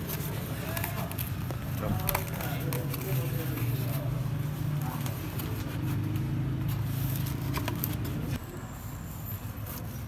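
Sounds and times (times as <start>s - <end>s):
food handling clicks and scrapes: 0.0s - 8.4s.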